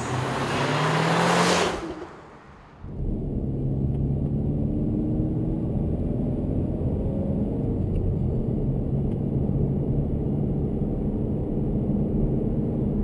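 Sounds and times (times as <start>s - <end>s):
car engine rumble from cabin: 0.0s - 13.0s.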